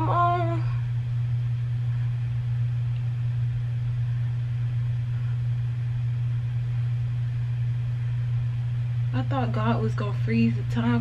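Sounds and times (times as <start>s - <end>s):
low-pitched hum: 0.0s - 11.0s.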